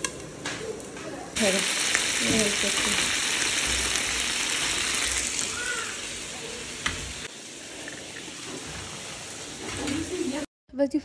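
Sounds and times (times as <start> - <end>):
chicken sizzling in frying pan: 1.4 - 10.4.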